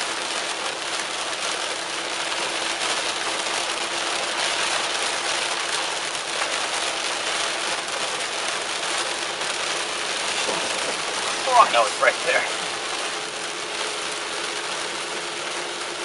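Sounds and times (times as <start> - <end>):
heavy rain on a car roof: 0.0 - 16.0
tyres on a wet road: 0.0 - 16.0.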